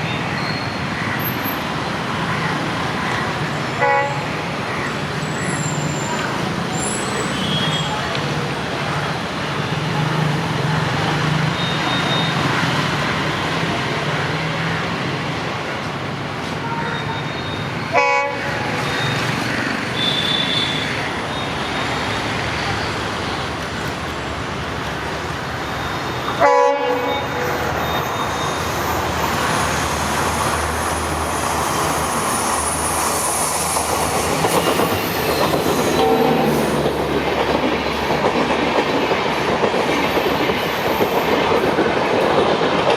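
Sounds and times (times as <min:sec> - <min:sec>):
train wheels rumbling on rails: 0:00.2 - 0:42.9.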